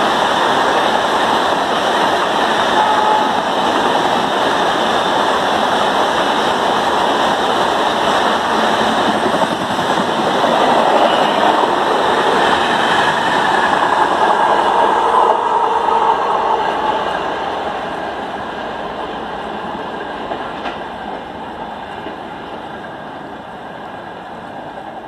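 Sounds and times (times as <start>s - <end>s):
train wheels running over rails: 0.0s - 25.0s.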